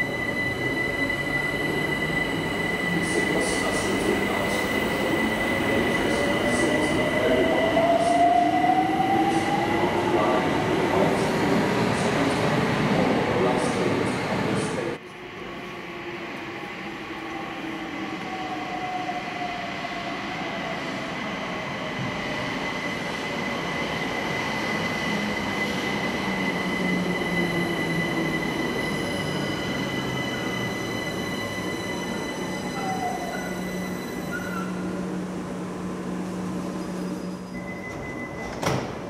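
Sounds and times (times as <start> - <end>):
rail and wheel noise: 0.0 - 39.0.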